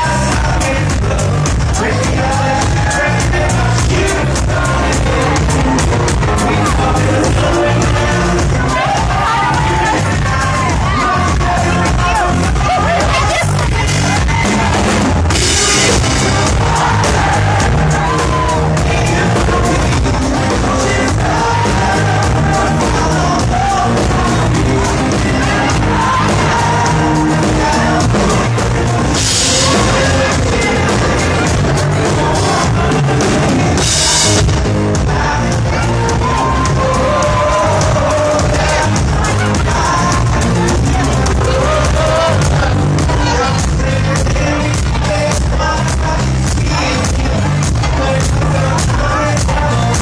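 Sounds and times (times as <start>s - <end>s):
crowd yelling and whooping: 0.0s - 45.9s
live rock band with singer: 0.0s - 50.0s.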